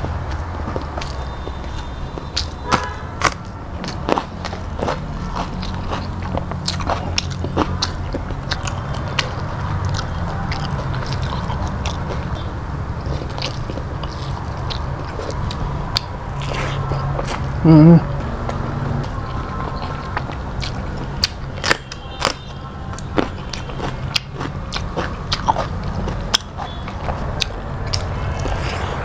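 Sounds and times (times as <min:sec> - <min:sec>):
crunching bites: 0:00.0 - 0:17.5, 0:18.4 - 0:29.0
chewing and mouth clicks: 0:00.0 - 0:29.0.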